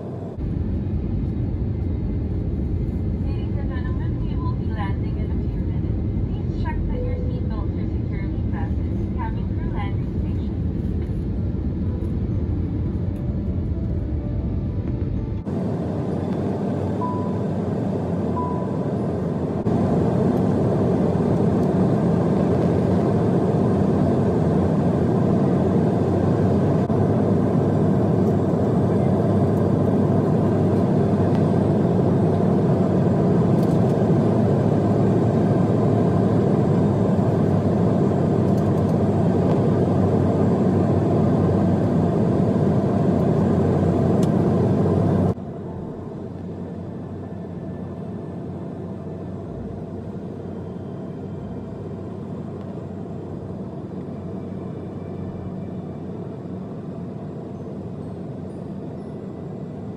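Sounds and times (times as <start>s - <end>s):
jet engine and airflow rumble: 0.0s - 59.9s.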